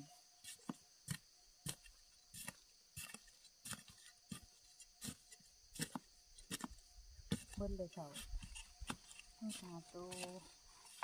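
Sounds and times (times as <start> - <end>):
hand spade knocking in soil: 0.5 - 11.0.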